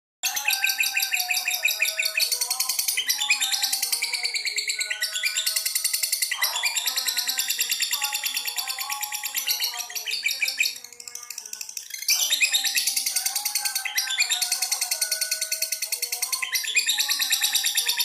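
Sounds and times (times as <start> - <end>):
lovebird chattering trill: 0.2 - 18.0.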